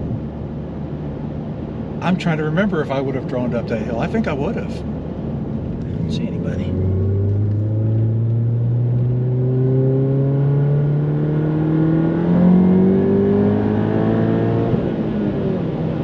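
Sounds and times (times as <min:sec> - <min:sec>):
car engine accelerating hard: 0:02.0 - 0:16.0.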